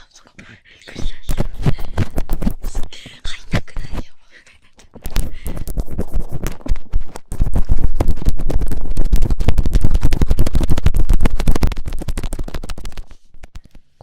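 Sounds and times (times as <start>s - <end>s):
earpick scraping inside microphone: 0.9s - 4.1s, 4.9s - 13.7s.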